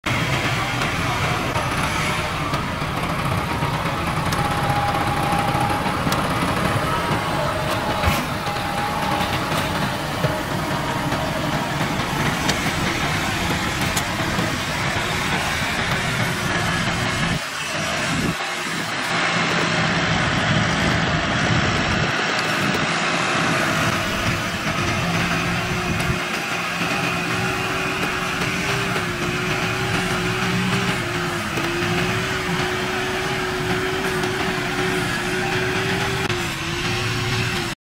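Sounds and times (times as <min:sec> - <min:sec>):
tractor diesel engine running: 0:00.0 - 0:37.8.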